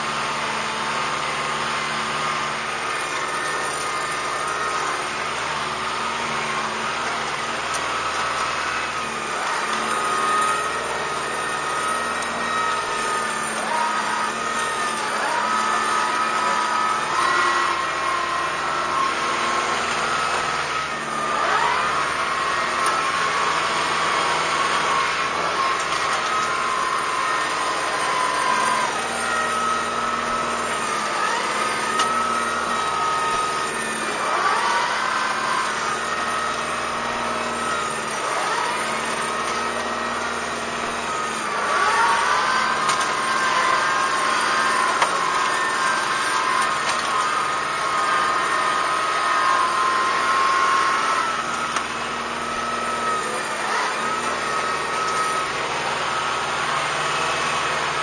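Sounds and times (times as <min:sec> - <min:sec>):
tractor diesel engine under load: 0:00.0 - 0:58.0
box blade dragging over dirt: 0:01.1 - 0:58.0.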